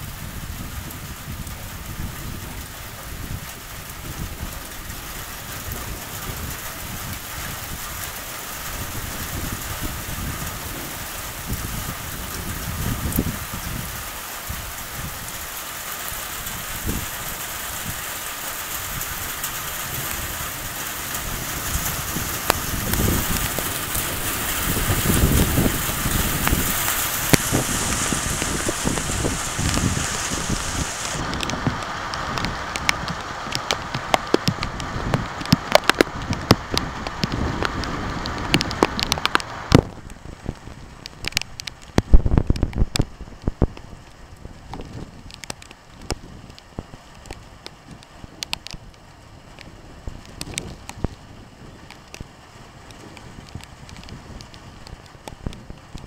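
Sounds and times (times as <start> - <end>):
low rumbles: 0.0 - 56.0
rain falling: 0.0 - 56.0.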